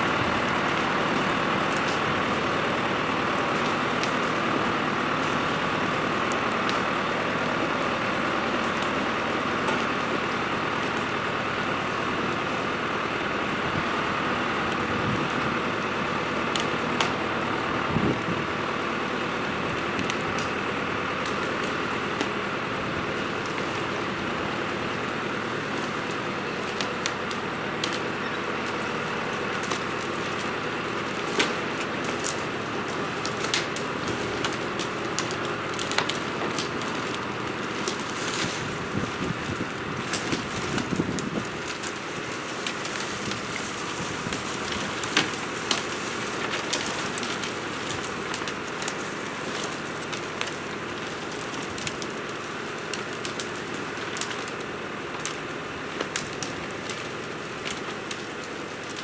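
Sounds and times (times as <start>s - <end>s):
crackles and snaps of branches: 0.0s - 59.0s
tractor engine running: 0.0s - 59.0s.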